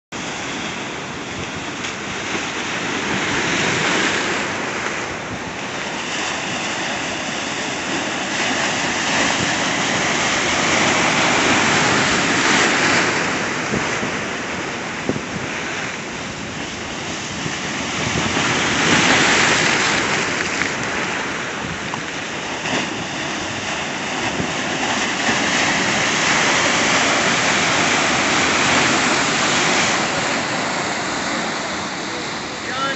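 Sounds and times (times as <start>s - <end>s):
ocean surf breaking on rocks: 0.2s - 32.9s.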